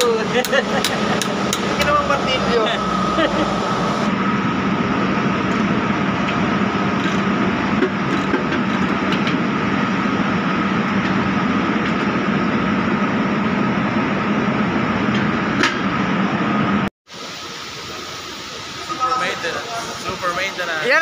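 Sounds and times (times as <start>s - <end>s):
machinery high whine: 0.0s - 21.0s
machinery low hum: 0.0s - 21.0s.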